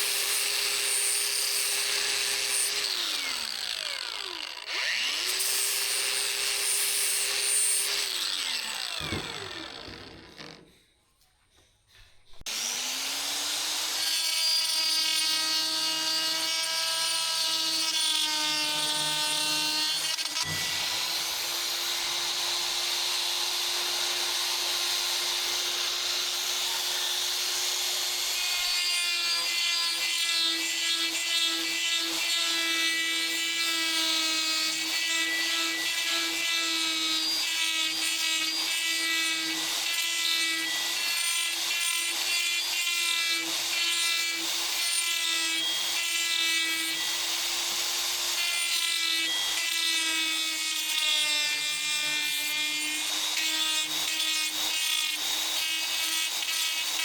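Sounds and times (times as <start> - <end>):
grinder on metal: 0.0 - 10.9, 12.4 - 57.0.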